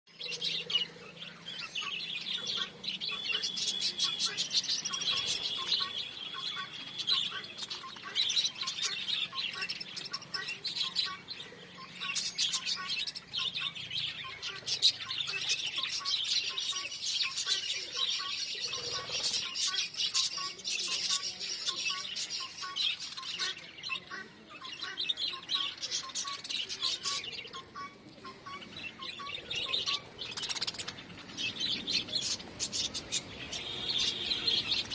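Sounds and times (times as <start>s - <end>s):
parrots chirping and warbling: 0.1s - 34.9s.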